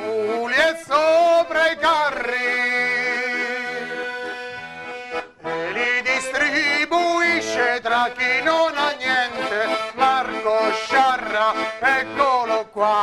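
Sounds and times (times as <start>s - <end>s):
man singing: 0.0s - 4.4s, 5.5s - 13.0s
button accordion playing: 0.0s - 13.0s.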